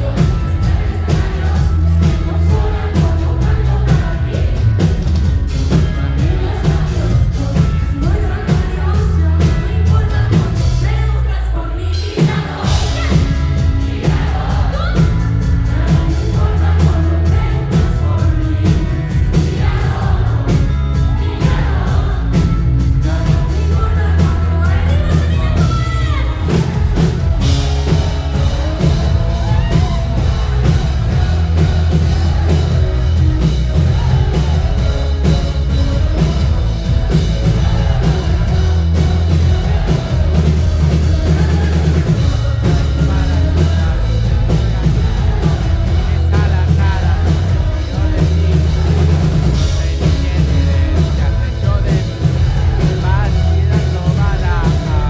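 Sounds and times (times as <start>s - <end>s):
live pop-rock band: 0.0s - 55.0s
person singing: 0.0s - 55.0s.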